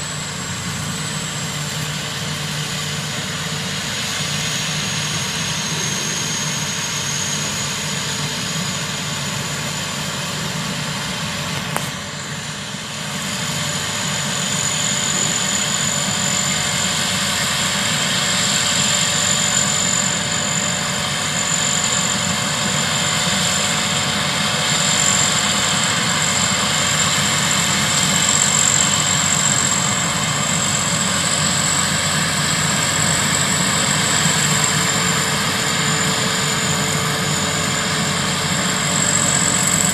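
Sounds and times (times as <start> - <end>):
combine harvester engine drone: 0.0 - 39.9
high-pitched whine: 0.0 - 39.9.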